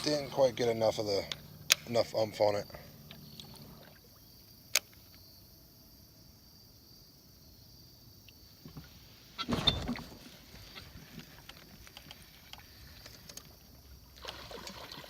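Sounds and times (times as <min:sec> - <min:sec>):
faint high insect drone: 0:00.0 - 0:15.0.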